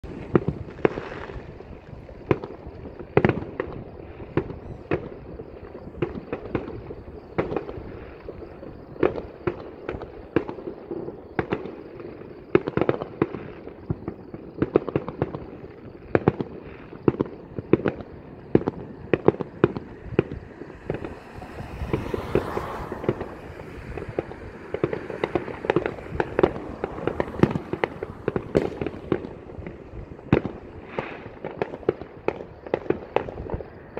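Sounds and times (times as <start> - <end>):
distant fireworks bangs and pops: 0.0 - 33.9.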